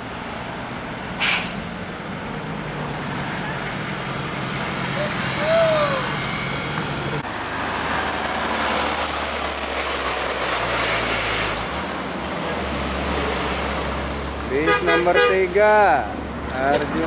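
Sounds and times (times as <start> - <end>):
vehicles driving past: 0.0 - 17.0.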